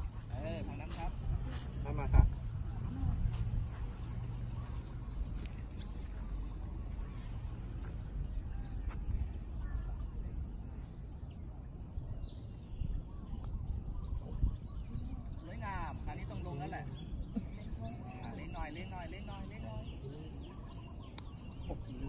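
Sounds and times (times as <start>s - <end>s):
steady low rumble: 0.0s - 22.0s
faint bird chirps: 2.7s - 22.0s.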